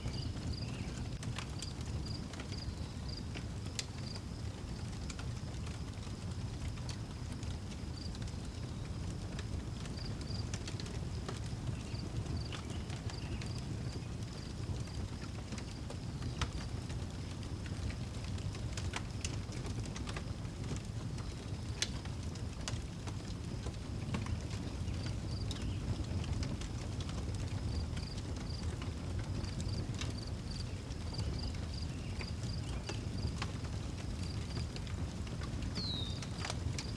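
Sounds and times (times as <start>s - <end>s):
wood fire crackling: 0.0s - 36.9s.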